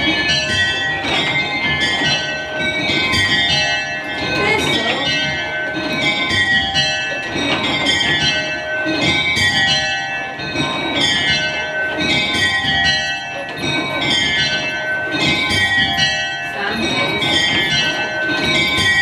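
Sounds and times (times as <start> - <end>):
tower bells ringing: 0.0 - 19.0.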